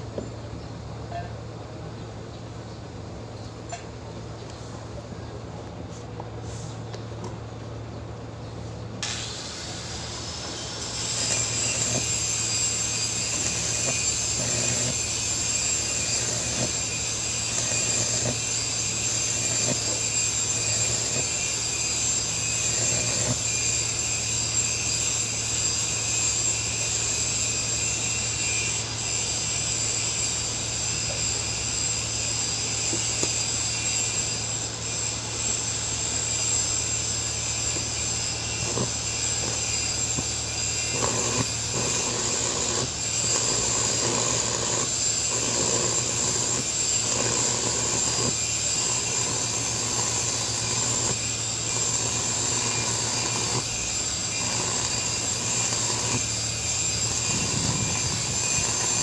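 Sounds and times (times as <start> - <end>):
angle grinder grinding steel: 10.4 - 59.0.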